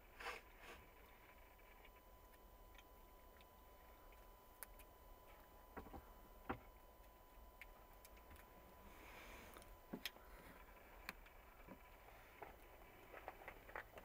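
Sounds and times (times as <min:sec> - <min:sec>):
faint steady high tone: 0:00.0 - 0:12.1
small clicks and ticks: 0:01.0 - 0:08.6, 0:09.5 - 0:14.0.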